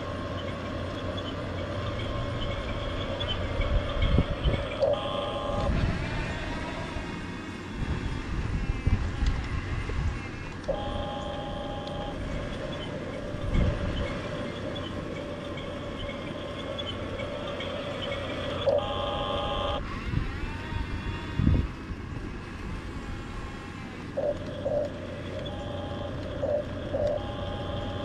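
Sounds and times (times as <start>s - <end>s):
electric motors whining: 0.0s - 28.0s.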